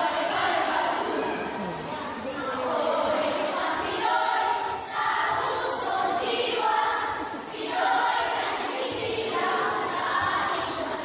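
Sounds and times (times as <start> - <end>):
children reciting in unison: 0.0 - 11.0.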